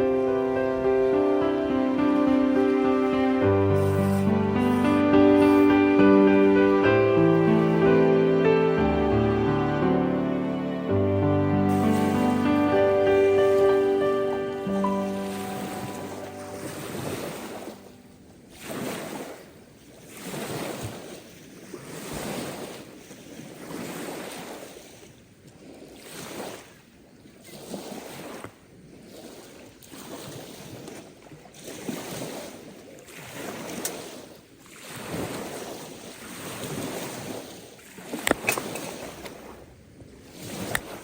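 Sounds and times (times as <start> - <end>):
lake waves lapping on shore: 0.0 - 41.0.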